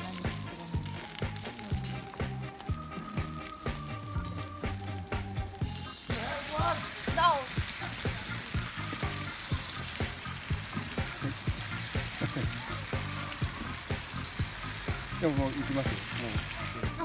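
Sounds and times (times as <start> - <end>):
background music with steady beat: 0.0 - 17.0
chicken sizzling over campfire: 0.0 - 17.0.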